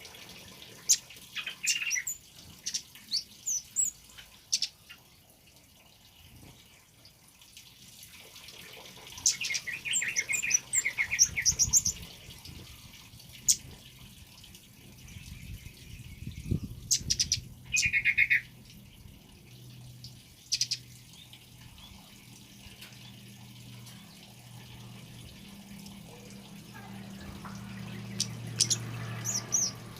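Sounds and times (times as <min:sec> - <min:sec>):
trickling water: 0:00.0 - 0:29.9.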